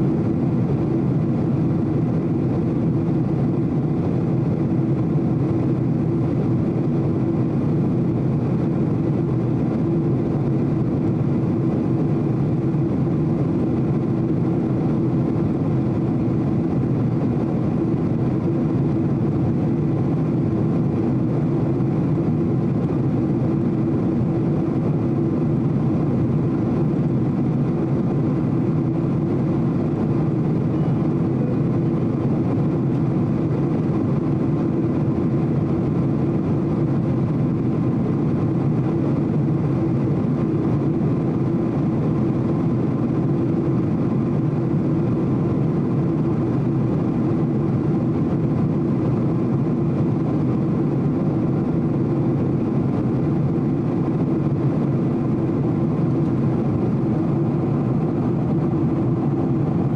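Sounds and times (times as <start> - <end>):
jet engines and airflow rumble: 0.0 - 59.9.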